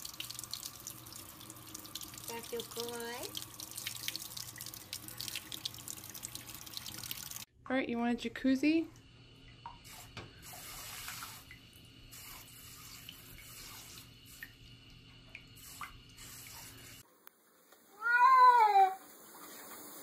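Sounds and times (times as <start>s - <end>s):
water trickling and splashing: 0.0s - 7.5s, 9.0s - 17.0s, 18.7s - 20.0s.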